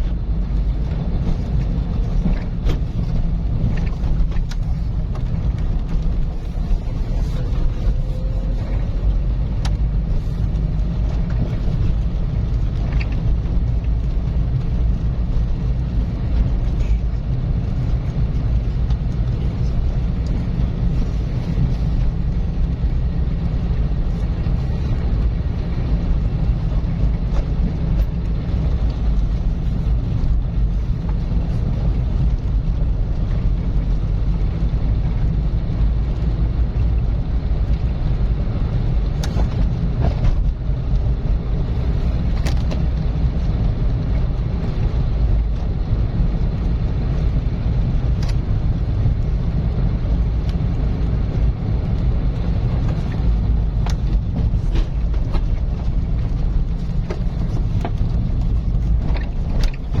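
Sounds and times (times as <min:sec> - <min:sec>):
car engine and tyre road noise: 0:00.0 - 1:00.0.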